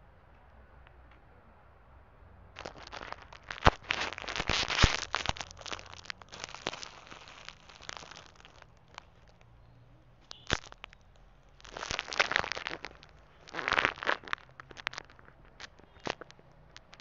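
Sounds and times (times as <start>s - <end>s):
plastic crinkling: 2.6s - 9.6s, 10.2s - 17.0s.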